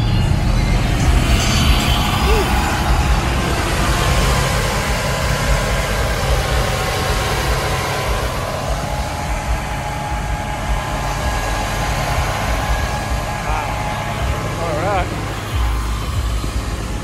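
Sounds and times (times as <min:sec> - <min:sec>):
engine idling low rumble: 0:00.0 - 0:17.0
faint steady tones: 0:00.0 - 0:17.0.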